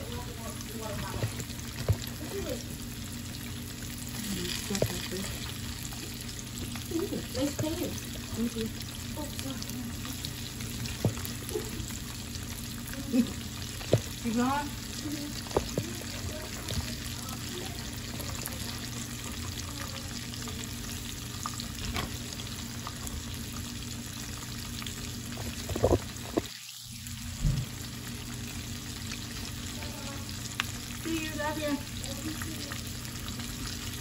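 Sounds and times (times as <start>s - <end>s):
fish frying in hot oil: 0.0s - 34.0s.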